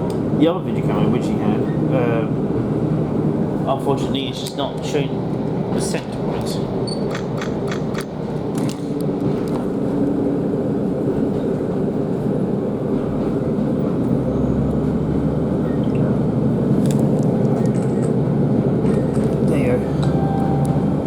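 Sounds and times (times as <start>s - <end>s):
train diesel engine rumble: 0.0s - 6.9s, 7.8s - 21.0s.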